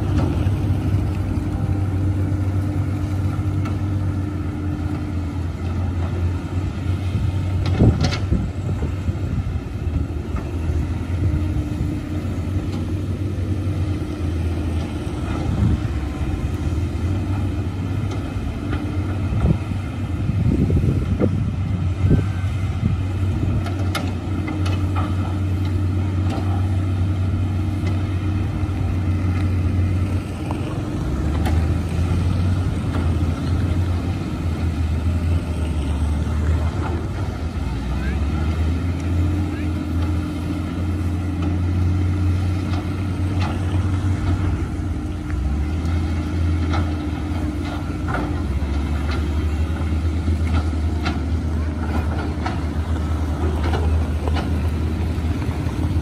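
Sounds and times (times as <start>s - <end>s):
excavator diesel engines: 0.0s - 56.0s.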